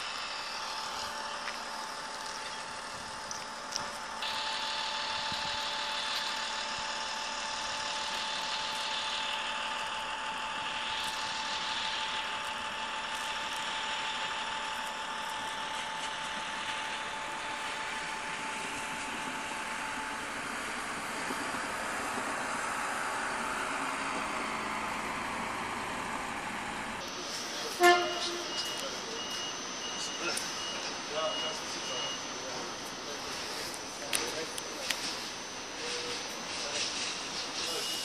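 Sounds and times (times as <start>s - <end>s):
electric train whine: 0.0s - 38.0s
train running hiss: 0.0s - 38.0s.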